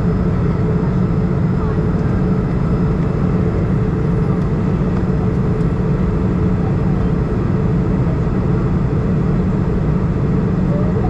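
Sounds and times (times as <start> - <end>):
jet engine cabin drone: 0.0 - 11.0.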